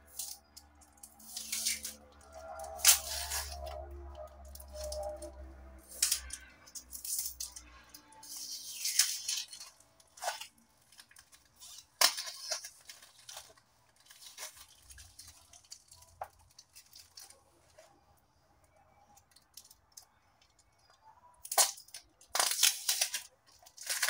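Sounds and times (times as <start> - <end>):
packing tape peeling and tearing: 0.0 - 17.4, 21.4 - 24.0.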